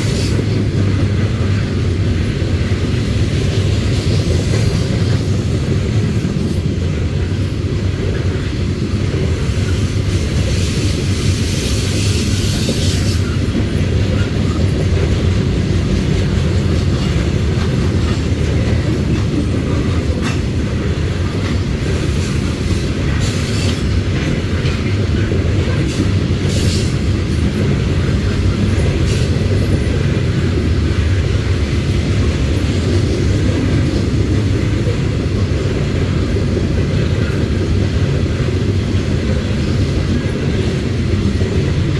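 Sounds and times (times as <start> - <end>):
freight train rolling past: 0.0 - 41.9
wheel and rail noise: 0.0 - 41.9.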